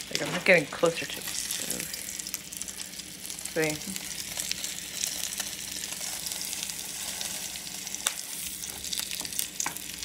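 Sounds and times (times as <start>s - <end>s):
patty sizzling in frying pan: 0.0s - 10.0s.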